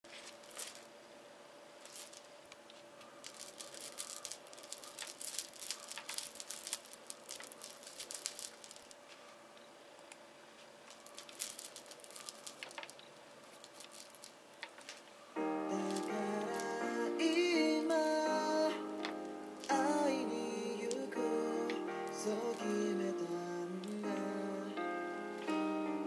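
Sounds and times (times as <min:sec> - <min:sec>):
faint steady hum: 0:00.1 - 0:26.0.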